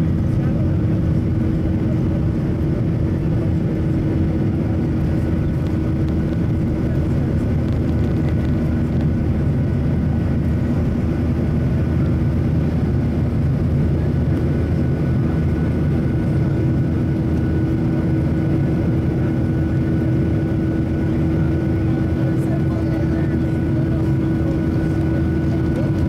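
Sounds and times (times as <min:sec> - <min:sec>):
constant cabin hum: 0:00.0 - 0:26.0
jet engines roaring: 0:00.0 - 0:26.0.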